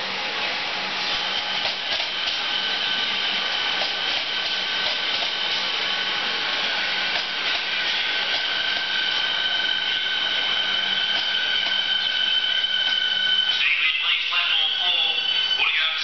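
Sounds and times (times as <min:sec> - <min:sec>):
electric train whine: 0:00.0 - 0:16.0.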